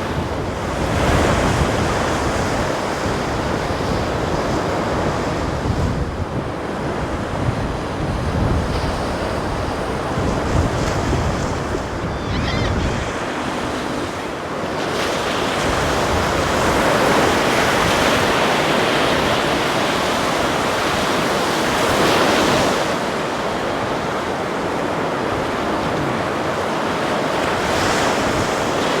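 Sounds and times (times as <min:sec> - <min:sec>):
ocean waves washing: 0:00.0 - 0:29.0
wind rumbling on microphone: 0:00.0 - 0:29.0.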